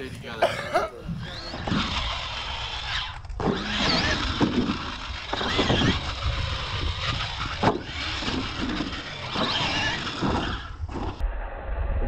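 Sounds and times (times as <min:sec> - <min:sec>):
tyres on dirt: 0:00.0 - 0:11.2
electric motors whining: 0:01.1 - 0:11.2.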